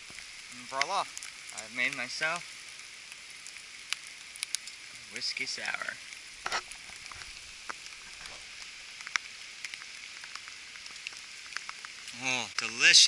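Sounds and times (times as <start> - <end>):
sharp drip ticks: 0.0 - 8.0, 8.6 - 13.0
rain falling: 0.0 - 13.0.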